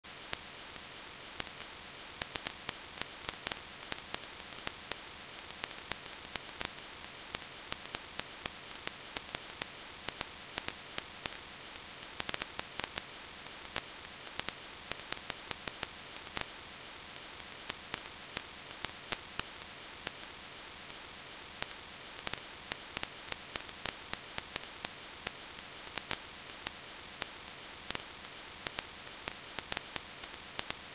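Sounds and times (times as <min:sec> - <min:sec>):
static hiss: 0:00.0 - 0:30.9
crackling clicks: 0:00.1 - 0:30.9.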